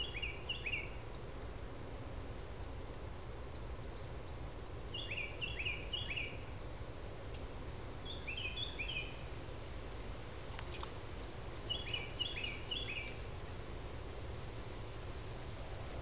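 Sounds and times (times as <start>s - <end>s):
songbird singing: 0.0s - 1.3s, 3.5s - 16.0s
low outdoor rumble: 0.0s - 16.0s.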